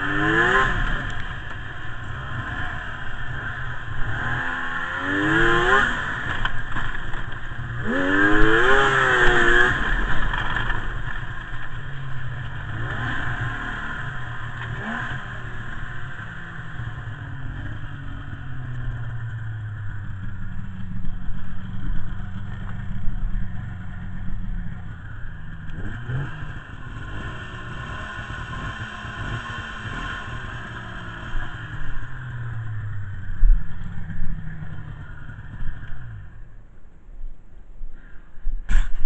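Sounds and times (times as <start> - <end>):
snowmobile engine running: 0.0 - 36.4.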